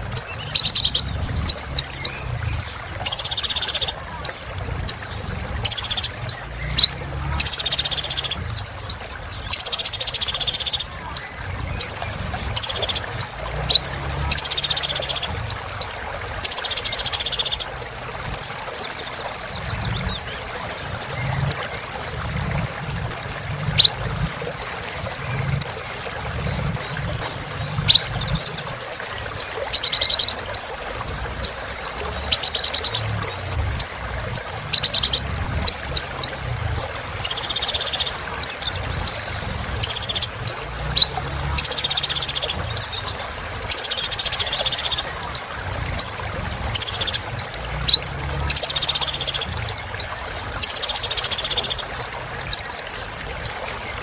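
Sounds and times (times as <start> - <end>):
bird chirping and trilling: 0.0 - 54.0.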